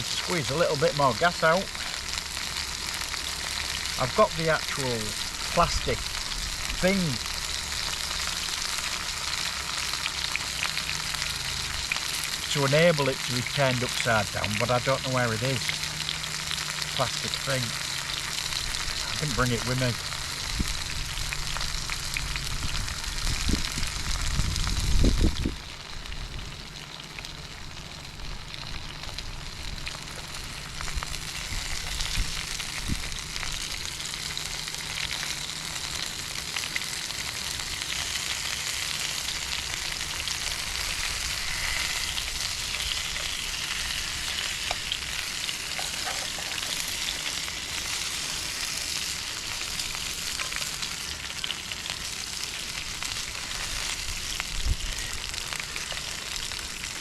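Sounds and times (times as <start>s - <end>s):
burgers sizzling in a pan: 0.0s - 57.0s.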